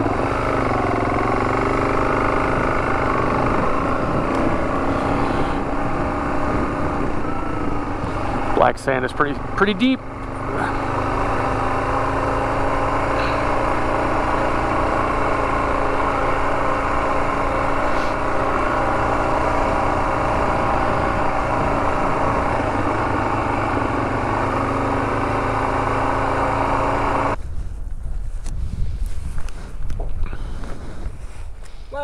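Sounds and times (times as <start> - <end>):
motorcycle engine running: 0.0 - 27.4
wind and road noise: 0.0 - 32.0.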